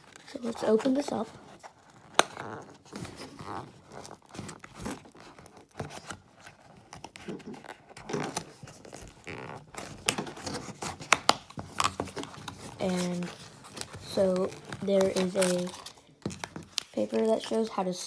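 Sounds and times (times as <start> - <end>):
cardboard flaps scraping: 0.0 - 16.8.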